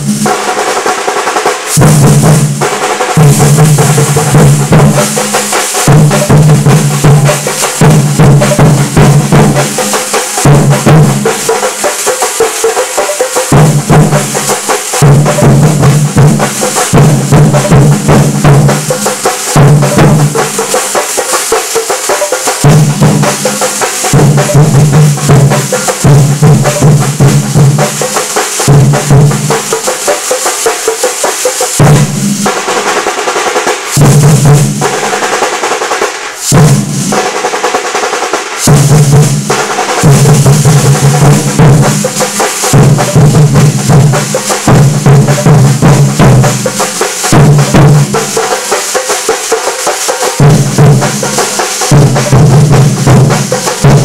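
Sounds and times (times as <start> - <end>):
deep drum notes: 0.0 - 11.8, 13.5 - 20.8, 22.6 - 29.7, 31.8 - 35.9, 36.5 - 37.8, 38.5 - 48.5, 50.4 - 54.0
percussion band playing: 0.0 - 54.0
snare and bass drum rolls: 0.0 - 54.0
hand cymbals clashing: 1.4 - 34.6, 38.6 - 54.0.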